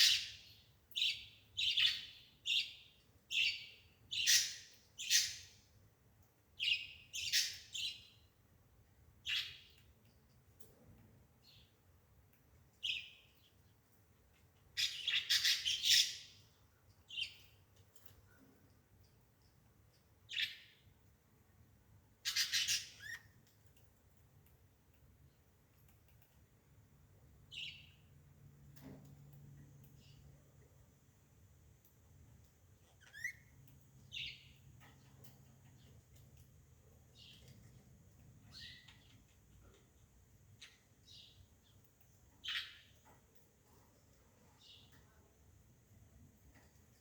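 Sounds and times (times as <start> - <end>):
bird chirping: 0.0 - 5.8, 6.6 - 8.4, 9.2 - 10.7, 11.3 - 11.9, 12.5 - 21.1, 22.1 - 30.9, 32.7 - 43.5, 44.4 - 45.3.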